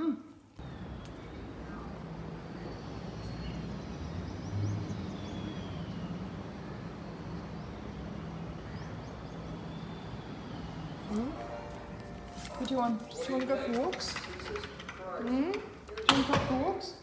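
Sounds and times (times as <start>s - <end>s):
distant traffic rumble: 0.5s - 17.0s.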